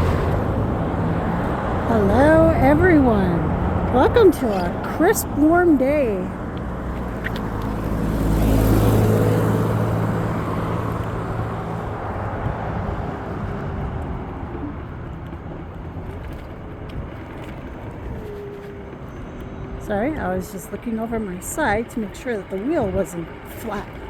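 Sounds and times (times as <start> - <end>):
rushing wind: 0.0 - 22.0
scooter road noise: 0.0 - 24.0
vehicle engine hum: 0.0 - 24.0.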